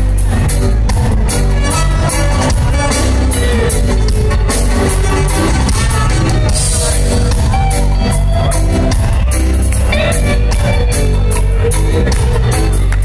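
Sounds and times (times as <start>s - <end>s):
live reggae band playing: 0.0s - 13.0s.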